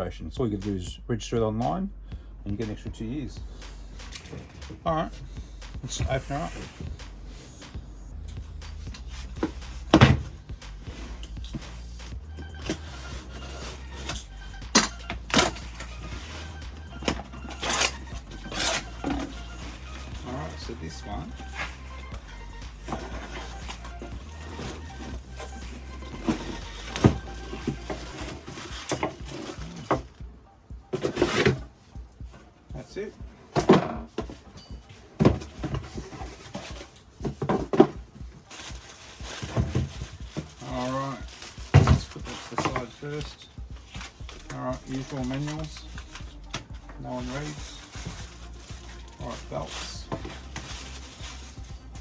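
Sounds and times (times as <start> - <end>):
quiet background music: 0.0 - 52.0
cardboard and packing rustling: 3.4 - 52.0
knocks of tool handling: 3.6 - 7.1, 8.6 - 30.2, 33.2 - 52.0.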